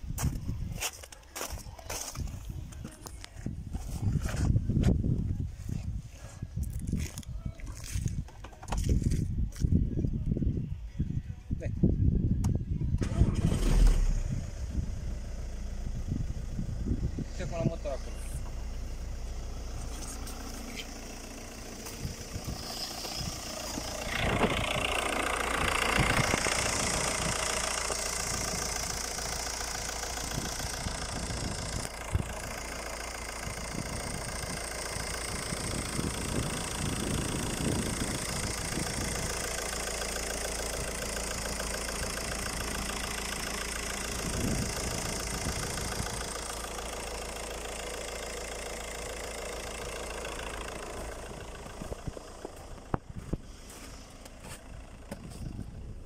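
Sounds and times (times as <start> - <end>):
diesel engine idling: 0.0 - 11.2, 12.1 - 56.0.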